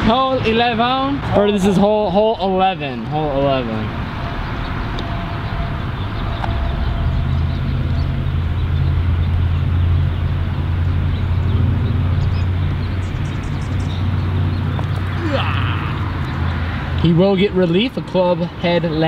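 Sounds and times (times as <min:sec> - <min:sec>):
rushing outdoor noise: 0:00.0 - 0:19.0
vehicle engine humming: 0:00.0 - 0:19.0.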